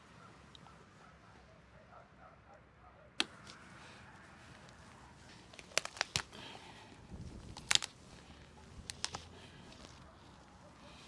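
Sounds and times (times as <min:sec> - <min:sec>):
faint background noise: 0:00.0 - 0:11.0.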